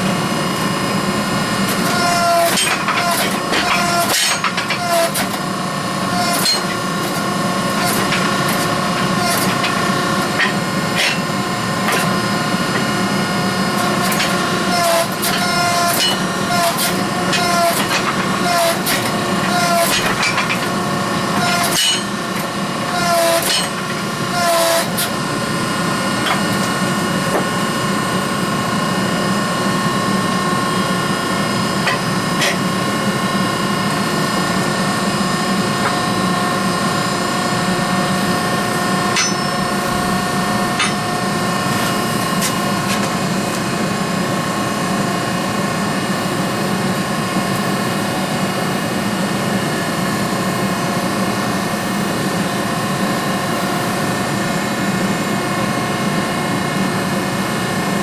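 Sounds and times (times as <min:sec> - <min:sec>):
mechanical drone: 0:00.0 - 0:58.0.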